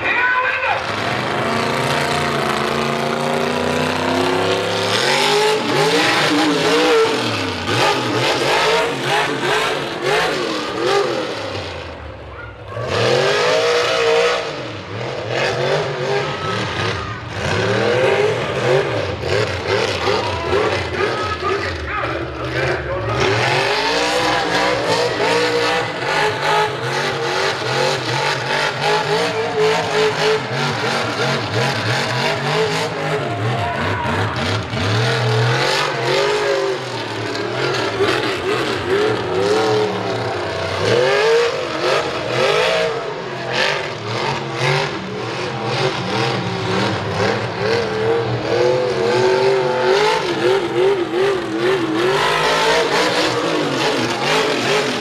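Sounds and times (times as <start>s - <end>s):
crowd noise: 0.0s - 55.0s
truck engine revving hard: 0.0s - 55.0s.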